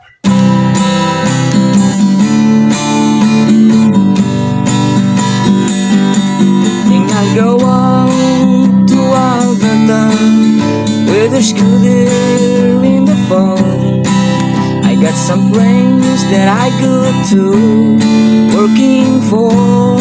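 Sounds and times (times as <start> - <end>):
acoustic guitar strumming chords: 0.0 - 20.0
sliding guitar melody: 0.0 - 20.0.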